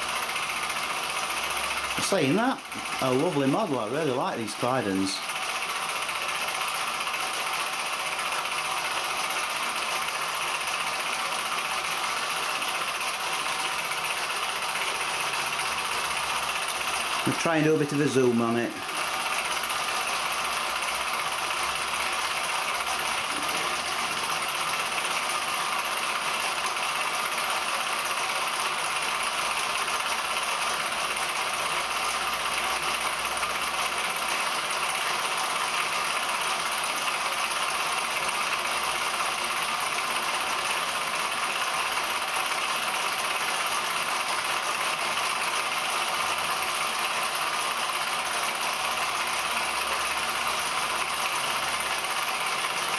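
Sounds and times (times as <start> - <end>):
toy steam engine running: 0.0 - 52.9.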